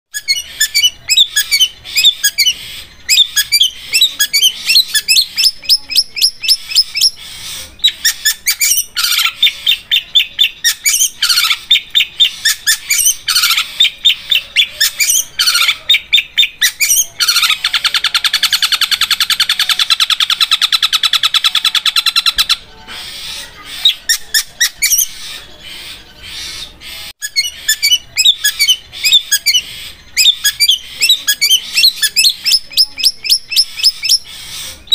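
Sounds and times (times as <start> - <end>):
bird singing sharp chattering notes: 0.1 - 34.9.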